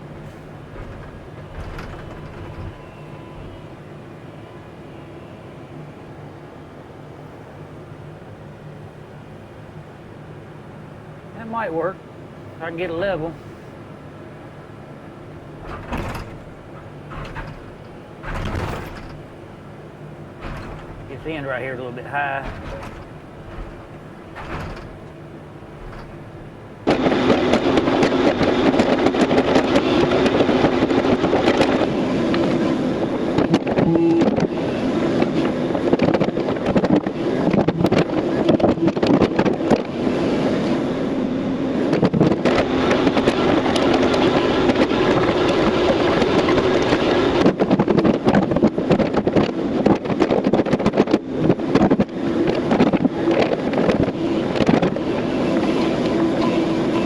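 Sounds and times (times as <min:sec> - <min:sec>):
excavator bucket clanking and rattling: 0:00.0 - 0:03.9, 0:12.6 - 0:13.6, 0:15.1 - 0:40.8, 0:41.8 - 0:57.0
excavator diesel engine under load: 0:00.0 - 0:06.2, 0:10.8 - 0:57.0.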